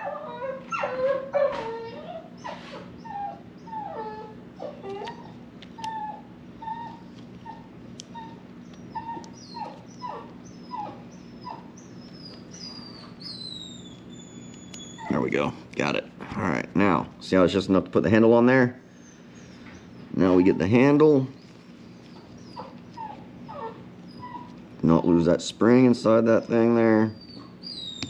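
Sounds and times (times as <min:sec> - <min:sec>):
puppy whining: 0:00.0 - 0:15.6, 0:18.8 - 0:28.0
steady low hum: 0:00.0 - 0:28.0.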